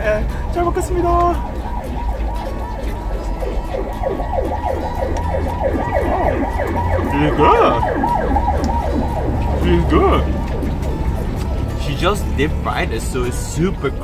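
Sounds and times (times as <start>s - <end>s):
siren yelping: 0.6s - 11.9s.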